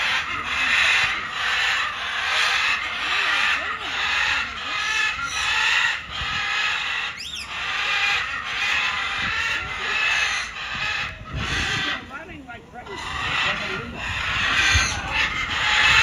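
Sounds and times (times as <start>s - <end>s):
birds chattering: 0.0s - 16.0s.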